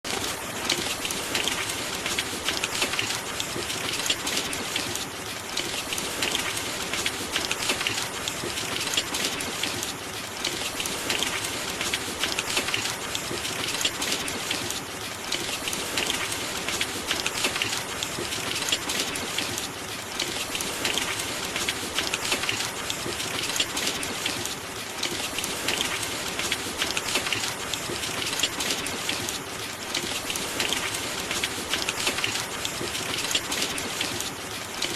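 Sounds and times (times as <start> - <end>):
dense rain pattering: 0.0 - 34.9.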